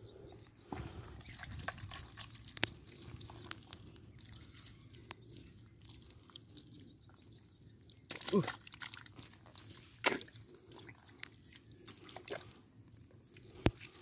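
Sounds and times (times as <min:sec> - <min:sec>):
hands squelching through mud: 0:00.8 - 0:14.0
wet clicks and drips: 0:01.0 - 0:12.6, 0:13.2 - 0:14.0.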